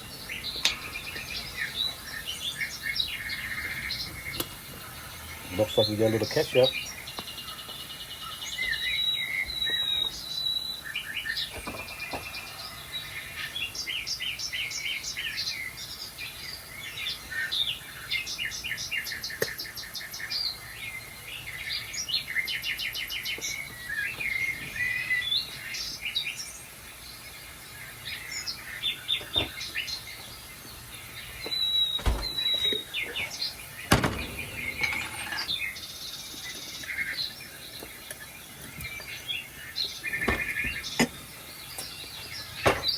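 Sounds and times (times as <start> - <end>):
recorded birdsong from tv: 0.0 - 42.9.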